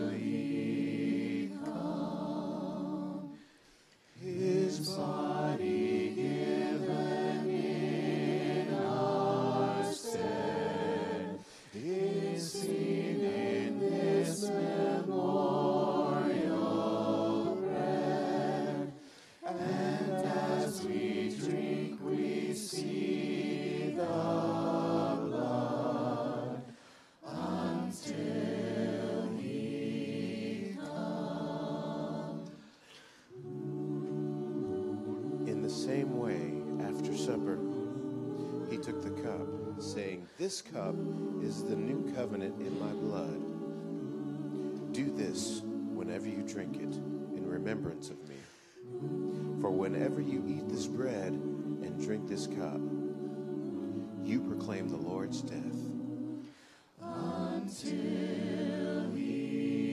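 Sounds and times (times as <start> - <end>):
voices singing a hymn: 0.0 - 59.9.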